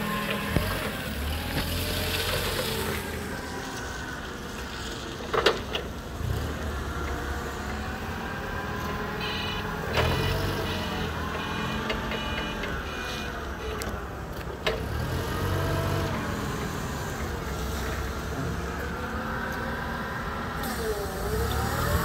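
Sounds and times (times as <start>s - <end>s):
forklift engine running: 0.0s - 22.0s.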